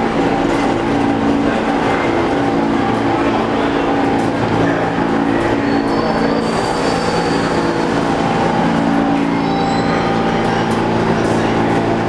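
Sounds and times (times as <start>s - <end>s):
steel wheels rumbling on rail: 0.0s - 12.0s
train electric hum and whine: 0.0s - 12.0s
train braking: 1.0s - 12.0s.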